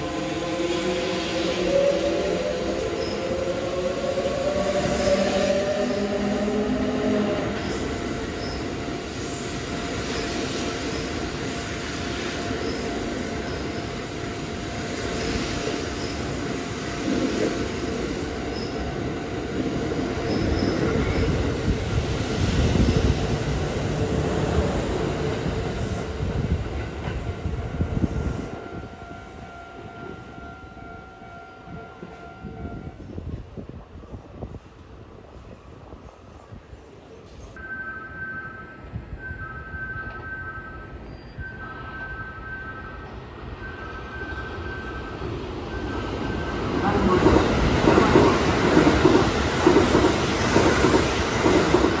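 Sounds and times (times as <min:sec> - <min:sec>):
electric train passing: 0:00.0 - 0:37.0, 0:37.6 - 0:52.0.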